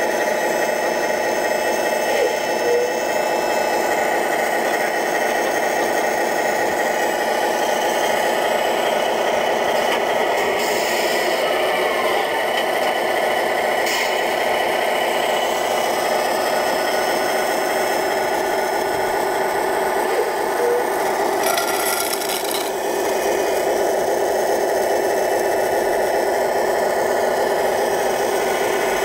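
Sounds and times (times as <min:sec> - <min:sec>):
toy loader mechanical drone: 0:00.0 - 0:29.0.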